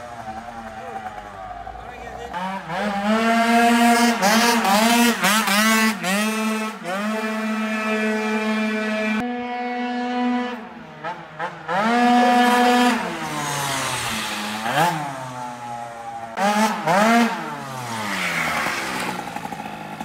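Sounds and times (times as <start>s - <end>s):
scooter engine revving past: 0.0s - 20.0s.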